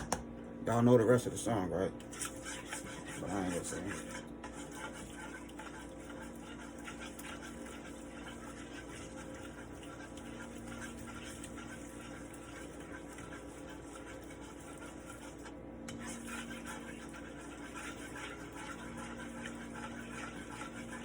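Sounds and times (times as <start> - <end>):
steady low hum: 0.0 - 21.0
utensil scraping a pan: 2.1 - 21.0.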